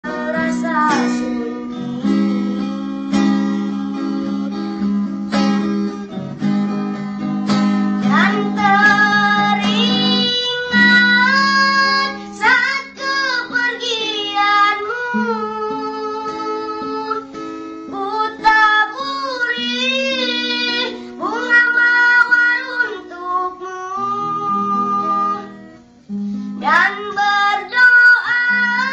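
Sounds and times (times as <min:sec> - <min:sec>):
high young voice singing: 0:00.0 - 0:06.2, 0:08.0 - 0:25.9, 0:26.6 - 0:28.9
plucked acoustic guitar: 0:00.0 - 0:28.9.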